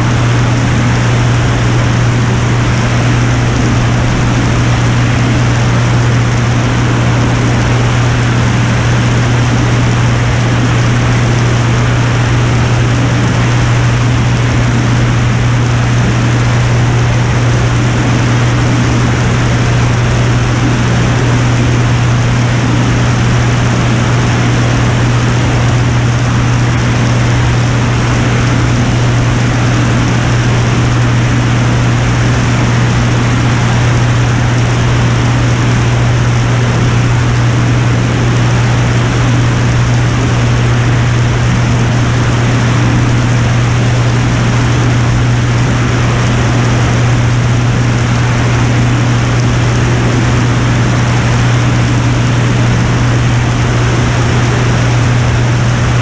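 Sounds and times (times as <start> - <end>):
propeller aircraft engine drone: 0.0 - 56.0.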